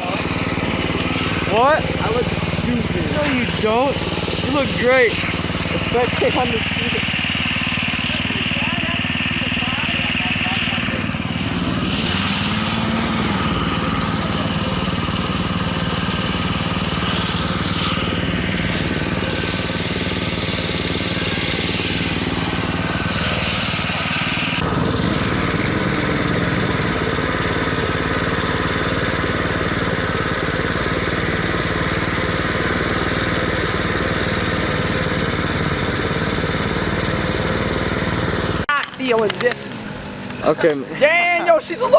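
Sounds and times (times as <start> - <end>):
small motorbike engine running: 0.0 - 41.9.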